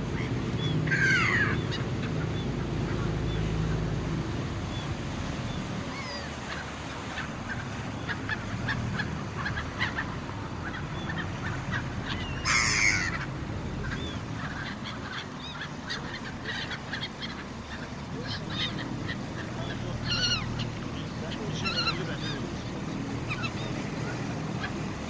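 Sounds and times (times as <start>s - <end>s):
churning wake: 0.0s - 25.0s
ferry engine rumbling: 0.0s - 25.0s
seagulls calling: 0.0s - 25.0s.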